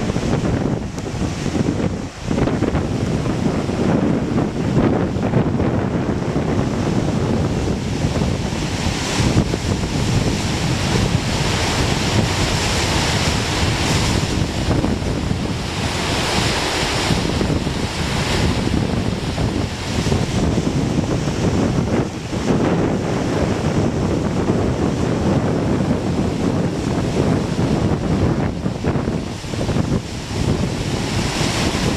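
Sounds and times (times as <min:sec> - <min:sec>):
river rapids rushing: 0:00.0 - 0:31.9
wind buffeting microphone: 0:00.0 - 0:31.9.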